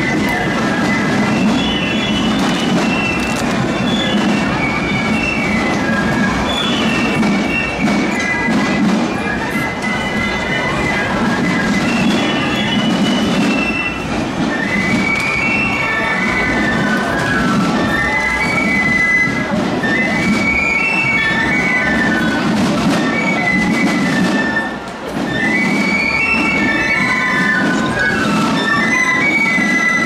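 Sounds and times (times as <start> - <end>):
piccolos playing in unison: 0.0 - 30.0.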